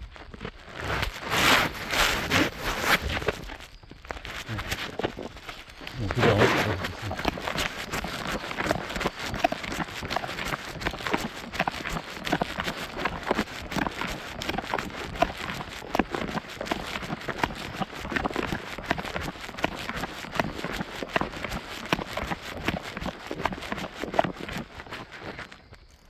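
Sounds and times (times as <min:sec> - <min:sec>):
running footsteps on a trail: 0:00.0 - 0:25.8.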